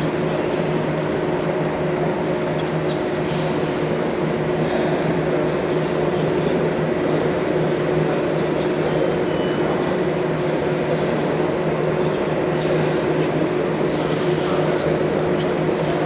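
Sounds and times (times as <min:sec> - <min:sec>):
large hall hum: 0:00.0 - 0:16.0.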